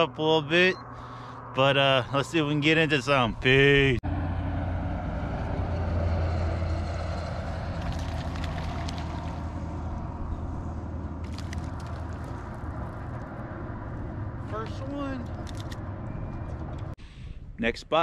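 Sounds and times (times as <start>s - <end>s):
water and air noise: 0.0s - 17.6s.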